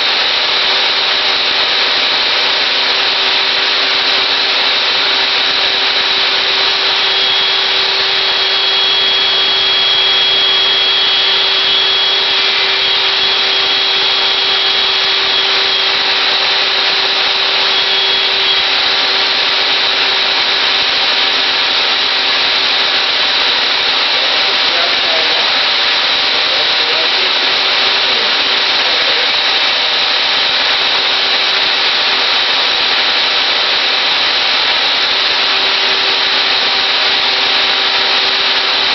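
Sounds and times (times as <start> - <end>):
table saw whining: 0.0 - 38.9.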